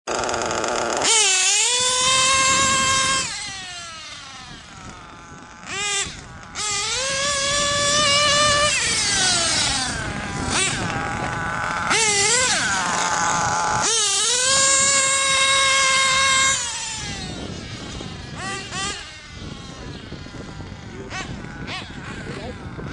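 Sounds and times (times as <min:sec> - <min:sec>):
nitro engine high-pitched whine: 0:00.1 - 0:22.9.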